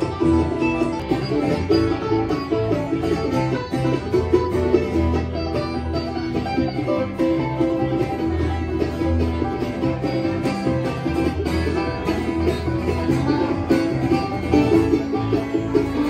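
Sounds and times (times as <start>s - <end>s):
plucked-string picking: 0.0s - 16.0s
walking bass line: 0.0s - 16.0s.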